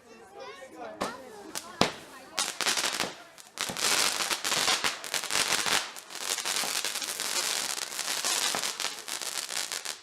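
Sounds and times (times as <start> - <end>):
fireworks crackling and popping: 1.0 - 10.0.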